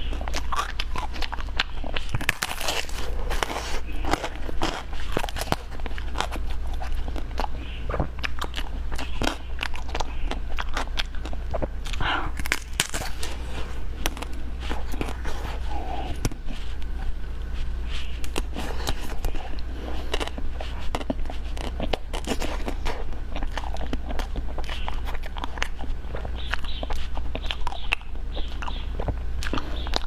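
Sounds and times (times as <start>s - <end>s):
crunching and chewing ice cream: 0.0s - 30.0s
steady low hum: 0.0s - 30.0s.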